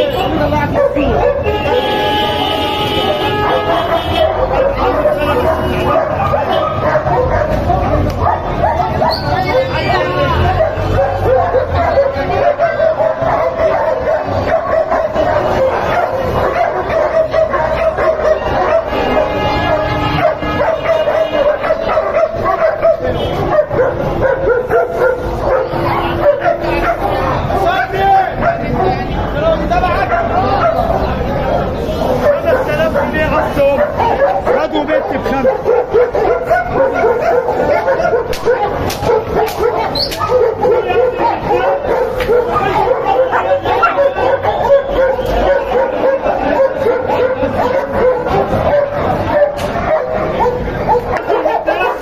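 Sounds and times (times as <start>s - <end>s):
dogs barking and yipping: 0.0s - 52.0s
puppies yapping: 0.6s - 29.2s, 29.8s - 52.0s.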